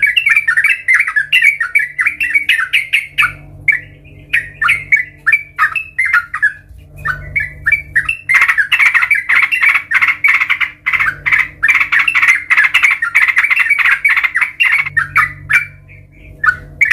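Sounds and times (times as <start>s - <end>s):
bird calling and chattering: 0.0s - 16.9s
faint low hum: 0.0s - 16.9s.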